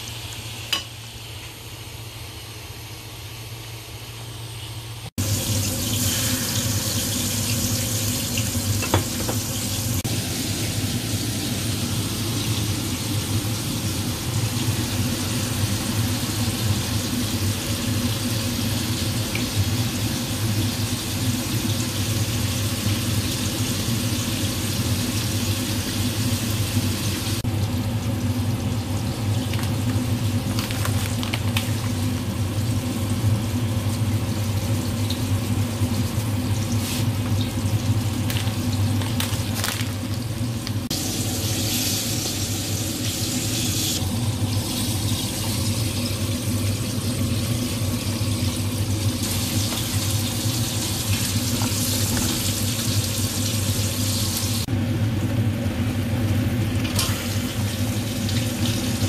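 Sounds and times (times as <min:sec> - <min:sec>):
liquid boiling in pan: 0:05.1 - 0:59.0.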